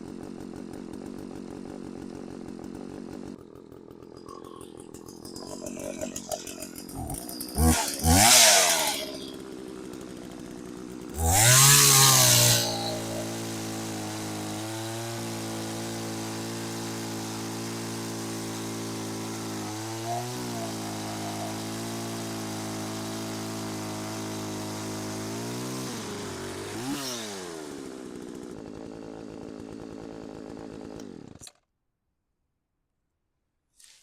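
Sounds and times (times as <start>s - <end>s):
chainsaw running: 0.0s - 31.7s.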